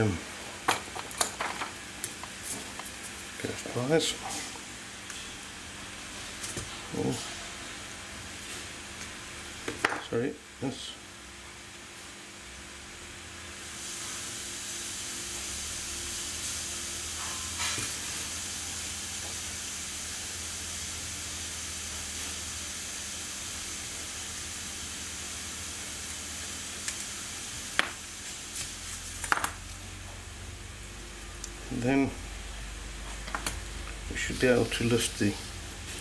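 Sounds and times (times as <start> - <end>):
steady high hiss: 0.0 - 12.0, 13.4 - 36.0.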